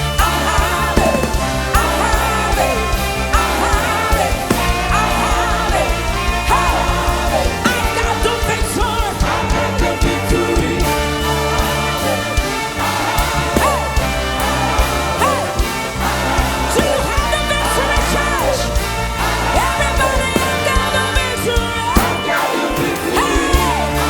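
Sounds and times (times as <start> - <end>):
steady beat: 0.0 - 24.0
sustained bass notes: 0.0 - 24.0.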